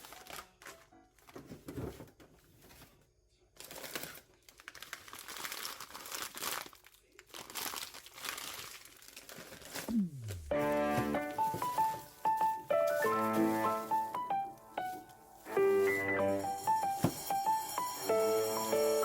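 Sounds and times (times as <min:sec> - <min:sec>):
crinkling and rustling: 0:00.0 - 0:10.0, 0:10.7 - 0:18.4.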